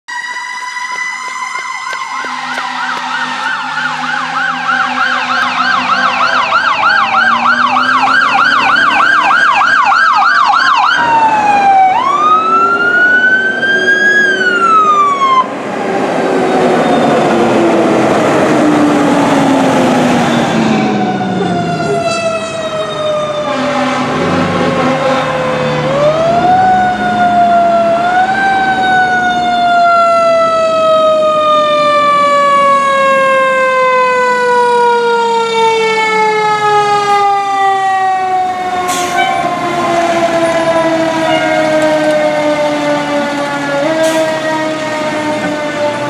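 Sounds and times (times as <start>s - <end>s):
electronic siren yelping: 0.1s - 15.5s, 20.2s - 46.0s
mechanical siren winding down: 0.1s - 15.5s, 16.4s - 46.0s
siren wailing: 0.1s - 46.0s.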